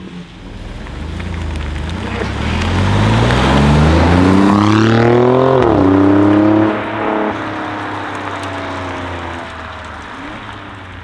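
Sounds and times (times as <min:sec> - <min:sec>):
car engine driving away: 0:00.0 - 0:11.0.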